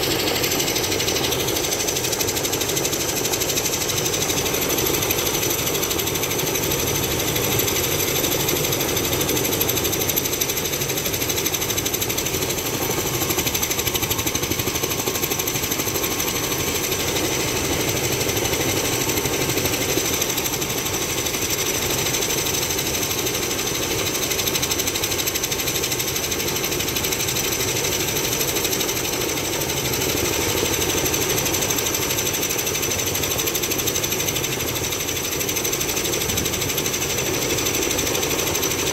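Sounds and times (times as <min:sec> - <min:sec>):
helicopter rotor beating: 0:00.0 - 0:38.9.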